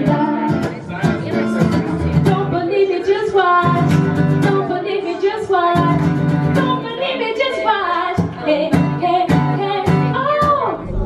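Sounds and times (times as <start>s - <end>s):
acoustic guitar strumming: 0.0s - 10.8s
woman singing: 0.0s - 11.0s.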